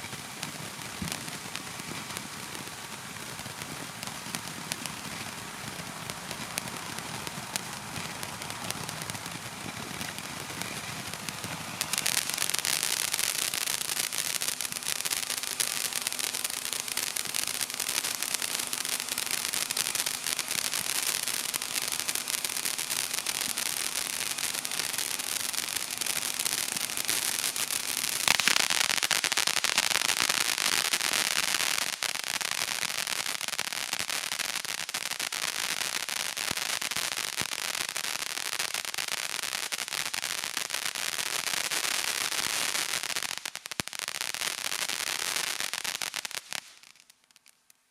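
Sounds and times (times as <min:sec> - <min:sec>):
fireworks crackling: 0:00.0 - 0:47.9.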